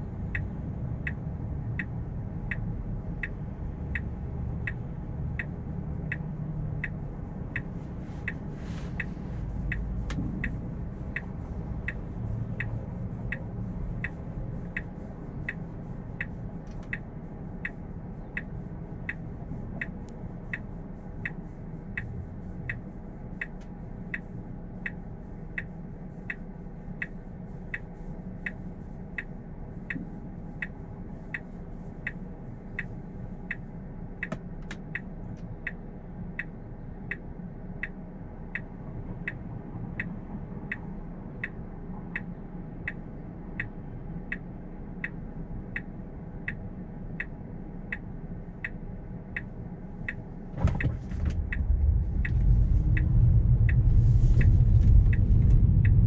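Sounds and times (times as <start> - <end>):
low steady hum: 0.0 - 56.0
turn signal ticking: 0.0 - 56.0.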